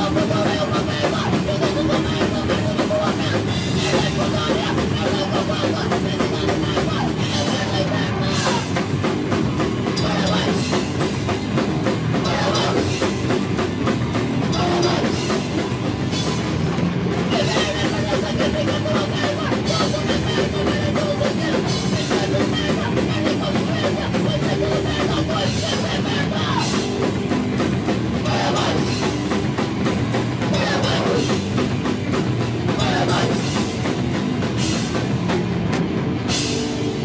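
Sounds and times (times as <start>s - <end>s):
bass drum: 0.0s - 37.0s
electric guitars: 0.0s - 37.0s
rock band playing live: 0.0s - 37.0s.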